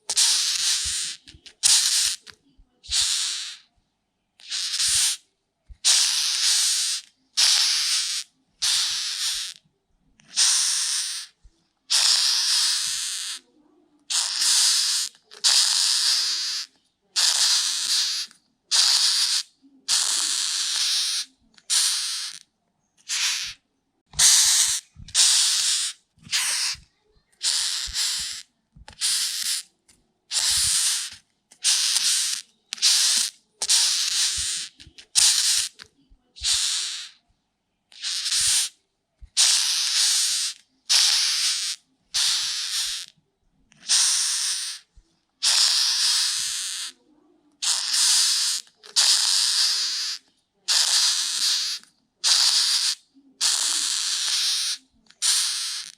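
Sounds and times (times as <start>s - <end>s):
beetle hissing: 0.1s - 2.3s, 2.9s - 3.6s, 4.4s - 5.2s, 5.8s - 9.6s, 10.3s - 13.4s, 14.1s - 22.4s, 23.0s - 23.6s, 24.2s - 26.8s, 27.4s - 29.7s, 30.3s - 35.8s, 36.4s - 37.2s, 37.9s - 38.8s, 39.4s - 43.1s, 43.8s - 47.0s, 47.6s - 55.9s.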